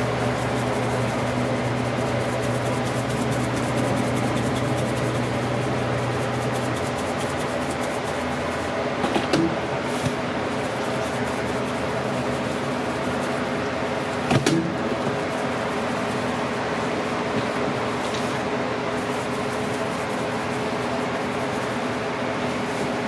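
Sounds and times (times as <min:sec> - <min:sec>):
kitchen equipment humming: 0:00.0 - 0:23.0.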